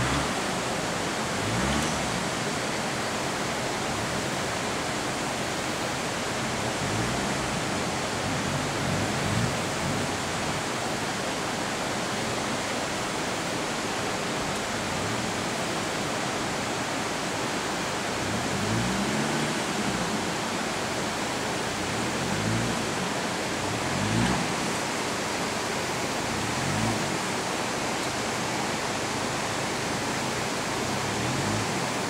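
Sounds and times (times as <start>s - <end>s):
pickup engine revving: 0.0s - 11.7s, 13.6s - 32.0s
steady rushing noise: 0.0s - 32.0s.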